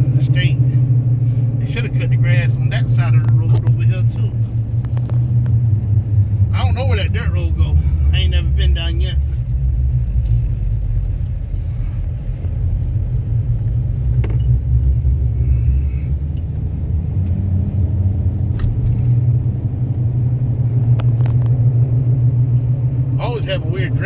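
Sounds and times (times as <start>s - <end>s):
vehicle rumble from inside cab: 0.0s - 24.0s.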